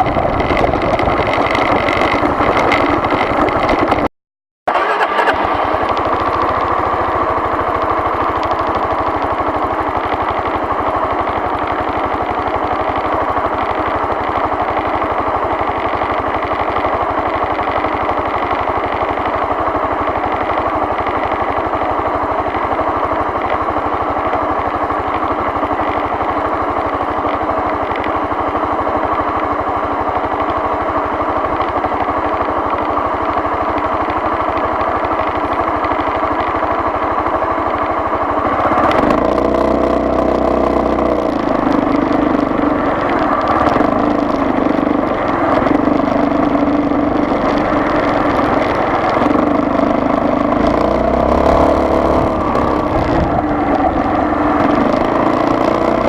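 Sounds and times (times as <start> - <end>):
road noise drone: 0.0 - 4.1, 4.7 - 56.0
vehicle engine running: 0.0 - 4.1, 4.7 - 56.0.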